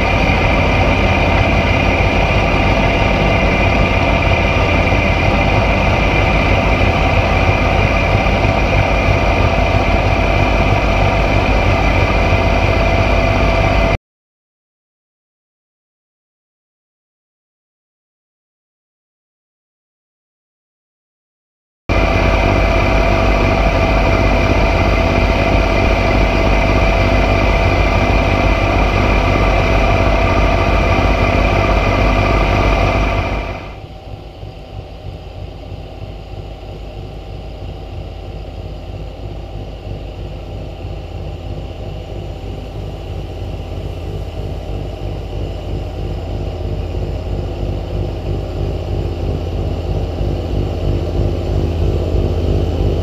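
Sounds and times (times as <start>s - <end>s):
tractor diesel engine running: 0.0s - 14.0s, 21.9s - 53.0s.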